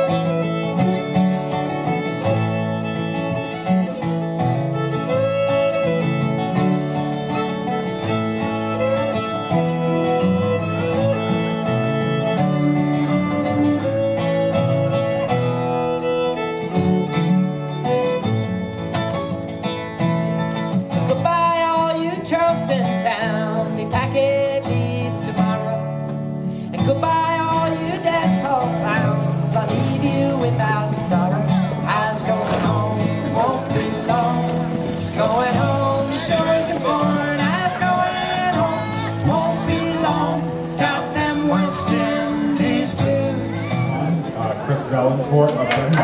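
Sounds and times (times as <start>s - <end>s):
bowed fiddle melody: 0.0s - 45.2s
strummed acoustic guitar chords: 0.0s - 46.0s.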